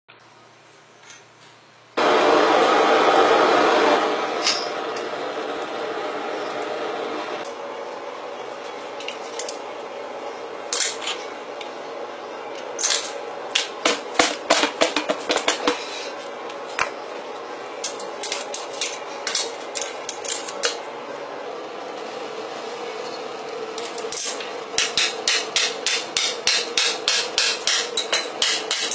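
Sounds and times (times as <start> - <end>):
steady hum: 1.8 - 28.9.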